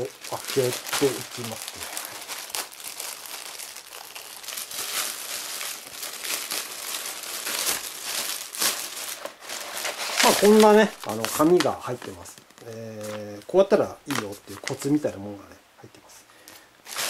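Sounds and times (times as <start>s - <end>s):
plastic bag crinkling: 0.0s - 15.2s, 16.4s - 17.0s.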